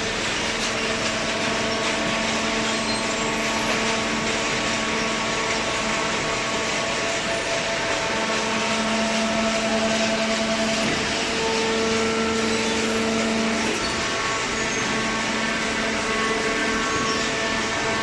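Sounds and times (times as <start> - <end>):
baler machine running: 0.0 - 18.0
pump hum: 0.0 - 18.0.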